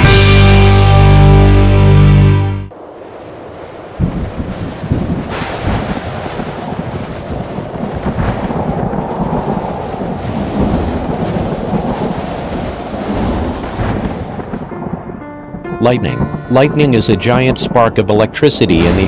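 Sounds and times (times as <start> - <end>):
thunder cracking and rumbling: 2.7 - 19.0.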